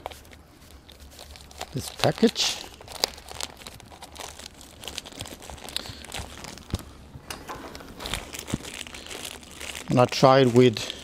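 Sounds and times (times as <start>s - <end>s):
plastic package crinkling: 0.0s - 11.0s.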